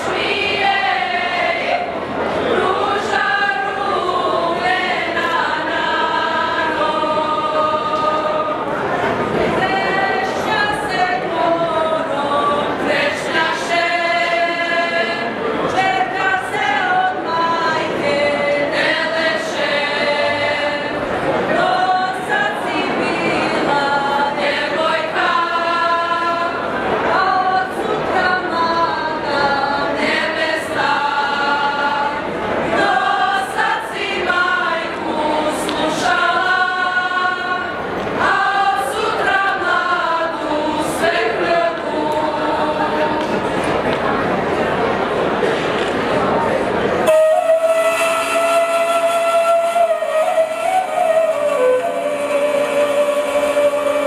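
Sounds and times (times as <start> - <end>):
women singing in unison: 0.0 - 43.8, 47.4 - 54.0.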